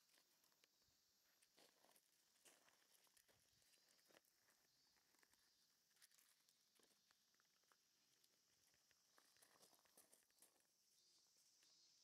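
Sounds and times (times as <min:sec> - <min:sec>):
paws pattering on gravel: 0:01.3 - 0:11.1.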